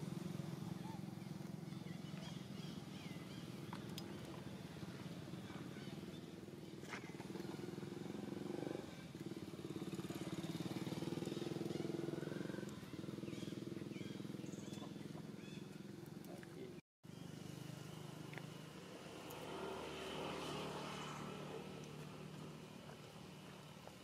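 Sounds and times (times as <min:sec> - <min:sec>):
small engine running: 0:00.0 - 0:16.3, 0:17.1 - 0:24.0.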